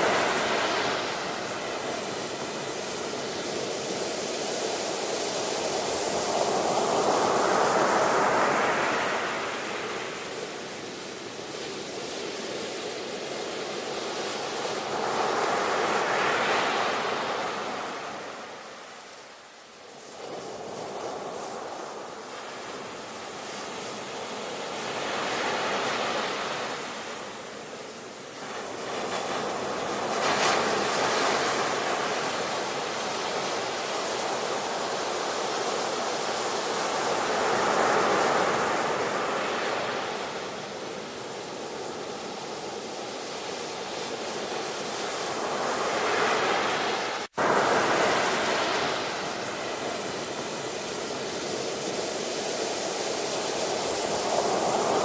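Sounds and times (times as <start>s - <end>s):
ocean waves breaking: 0.0s - 19.1s, 28.2s - 55.0s.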